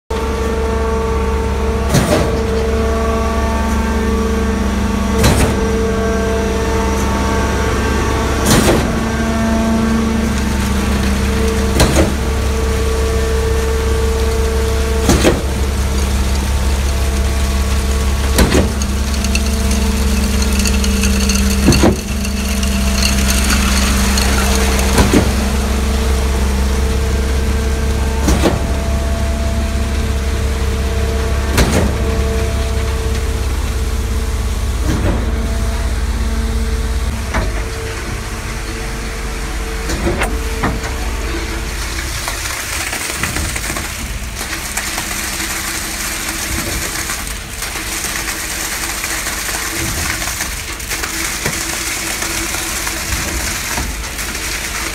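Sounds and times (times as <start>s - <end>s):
concrete pump running: 0.1s - 54.9s
wet concrete rushing down chute: 3.8s - 54.9s.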